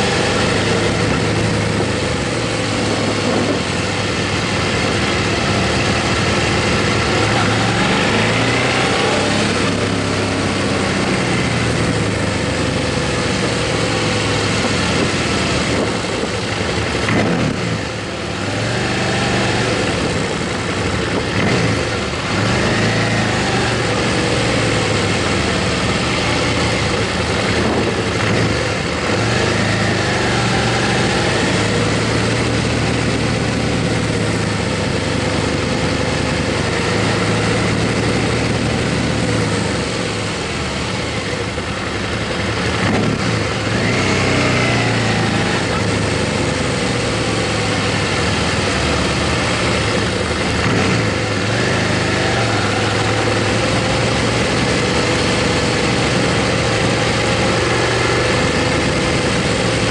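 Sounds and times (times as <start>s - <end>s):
motorcycle engine revving: 0.0s - 59.9s
steady rushing noise: 0.0s - 59.9s.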